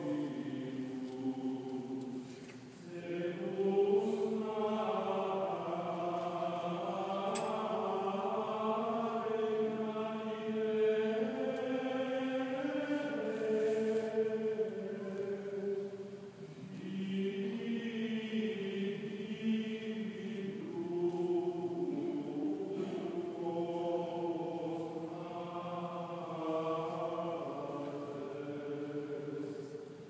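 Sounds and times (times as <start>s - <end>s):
voices singing chant: 0.0s - 30.0s.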